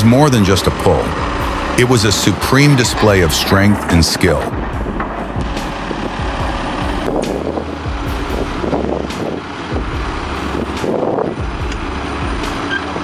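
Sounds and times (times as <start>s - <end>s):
heavy diesel machines running: 0.0s - 13.0s.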